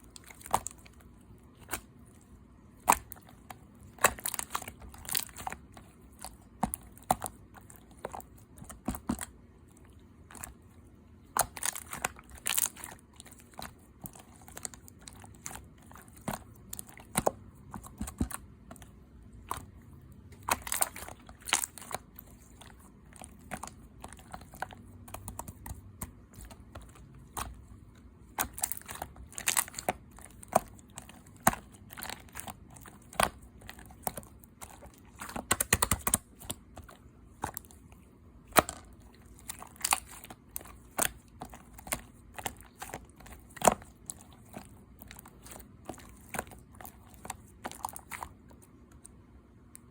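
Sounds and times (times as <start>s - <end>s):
slime squished by hand: 0.0s - 49.9s.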